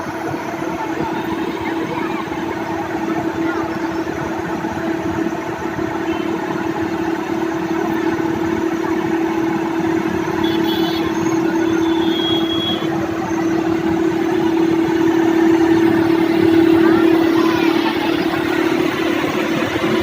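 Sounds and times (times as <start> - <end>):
construction machine engine humming: 0.0 - 20.0.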